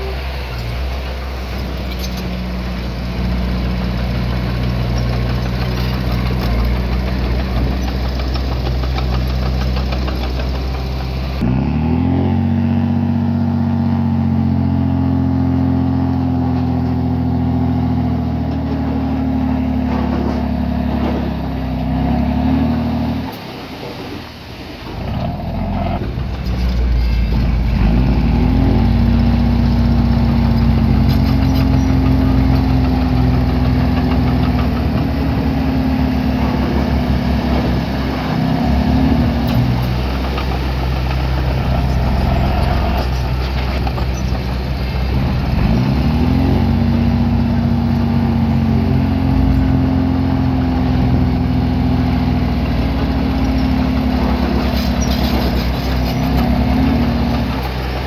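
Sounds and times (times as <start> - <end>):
diesel engine revving under load: 0.0 - 58.0.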